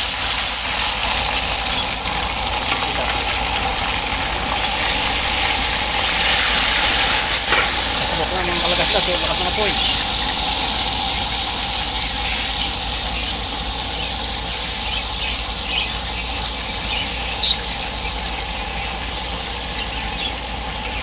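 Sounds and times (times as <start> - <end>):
fish deep-frying in hot oil: 0.0 - 21.0
oil popping: 0.0 - 21.0.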